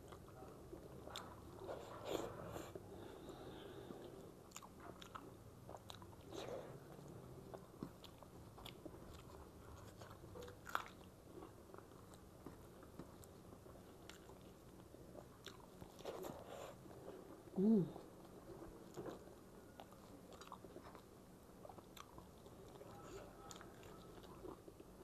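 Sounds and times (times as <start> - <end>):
person chewing and eating: 0.0 - 25.0.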